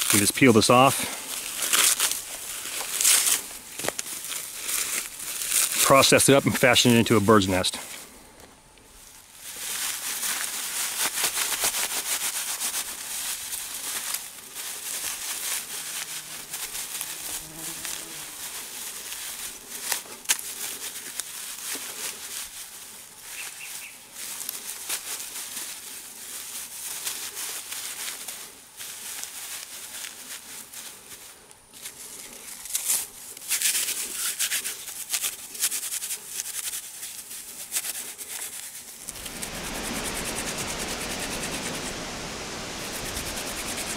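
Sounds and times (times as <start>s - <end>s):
dry bark fibres rustling and crackling: 0.0s - 43.9s.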